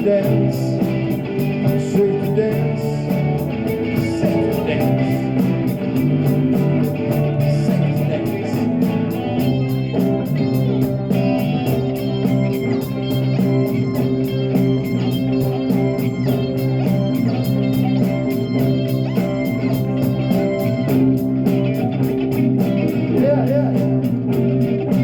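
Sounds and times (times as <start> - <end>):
electric guitar: 0.0 - 25.0
live rock band playing: 0.0 - 25.0.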